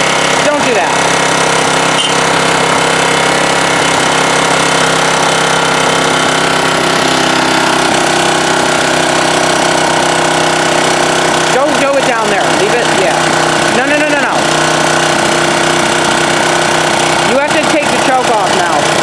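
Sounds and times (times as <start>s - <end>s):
lawnmower engine running: 0.0s - 19.0s.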